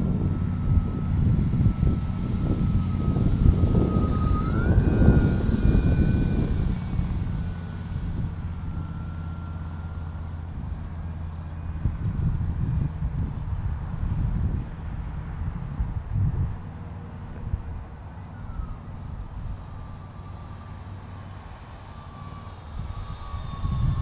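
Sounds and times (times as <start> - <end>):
wind rumble on microphone: 0.0 - 21.4, 22.2 - 24.0
model airplane motors whining: 0.0 - 24.0.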